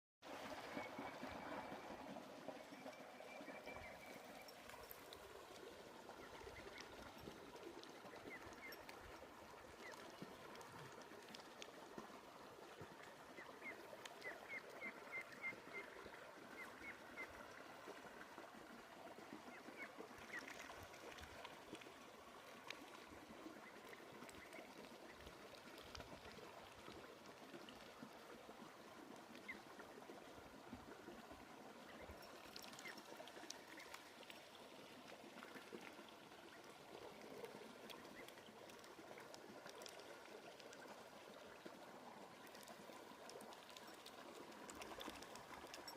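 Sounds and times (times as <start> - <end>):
water trickling: 0.2 - 45.9.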